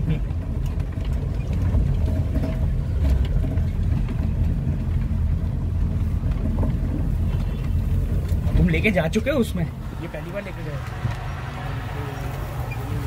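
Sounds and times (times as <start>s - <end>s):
jeep engine running: 0.0s - 13.0s.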